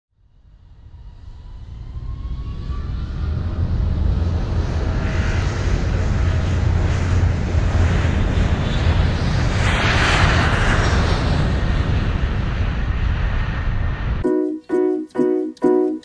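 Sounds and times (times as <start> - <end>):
jet engine and airflow rumble: 0.3 - 16.0.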